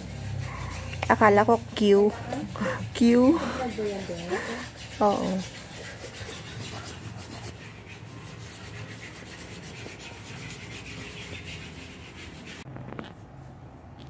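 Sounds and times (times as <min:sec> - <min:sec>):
nail file rubbing fingernails: 0:00.0 - 0:14.0.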